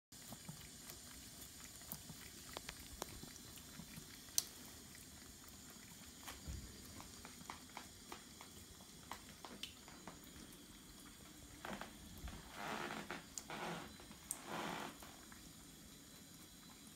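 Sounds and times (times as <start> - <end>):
cat lapping water: 0.1 - 12.5, 14.0 - 16.9
tap water trickling into sink: 1.9 - 16.9.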